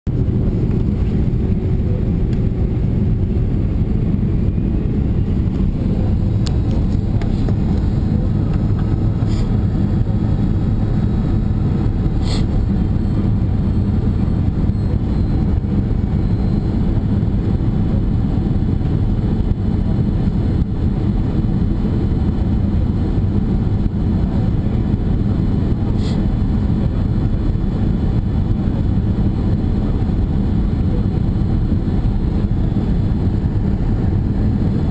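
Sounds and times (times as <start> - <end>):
airliner engine rumble: 0.0 - 34.9.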